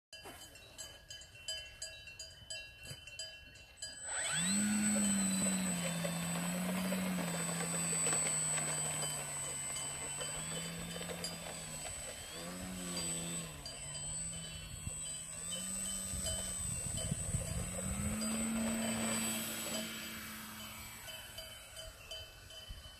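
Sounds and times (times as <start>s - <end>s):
cowbells clanking: 0.2s - 22.9s
model plane motor and propeller: 3.4s - 22.9s
high electronic whine: 4.0s - 22.4s.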